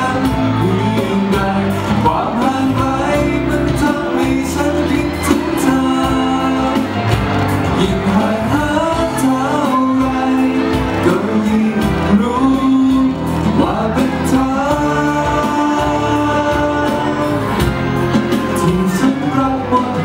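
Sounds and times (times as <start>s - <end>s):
backing music: 0.0s - 20.0s
man singing into microphone: 0.0s - 20.0s.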